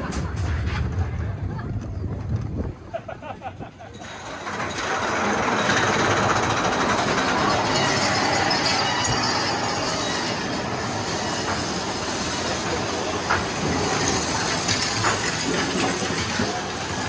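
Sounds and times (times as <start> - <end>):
roller coaster wheels rumbling on rails: 0.0 - 17.0.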